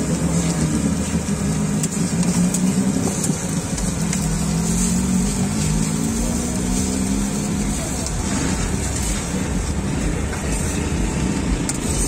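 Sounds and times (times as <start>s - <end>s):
low mechanical drone: 0.0s - 12.0s
patties frying on griddle: 0.2s - 12.0s.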